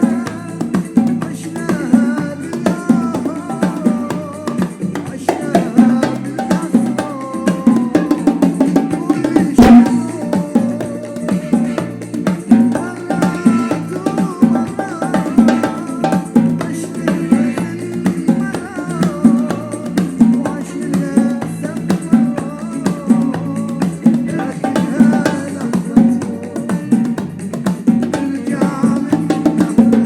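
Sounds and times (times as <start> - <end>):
pop song with percussion beat: 0.0 - 30.0.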